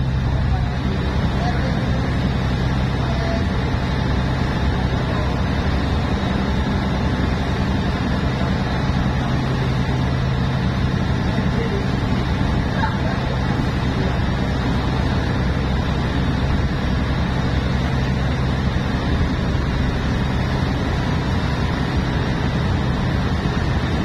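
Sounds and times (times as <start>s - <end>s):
rushing water of wake: 0.0s - 24.0s
ship engine humming: 0.0s - 24.0s.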